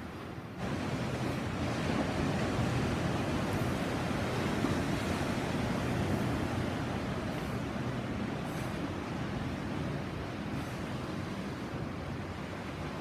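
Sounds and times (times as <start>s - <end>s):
waves washing on shore: 0.0s - 13.0s.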